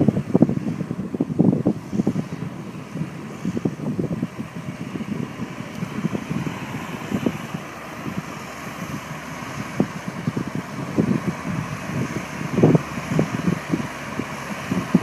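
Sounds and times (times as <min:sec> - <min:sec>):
tractor engine running: 0:00.0 - 0:15.0
wind buffeting microphone: 0:00.0 - 0:15.0.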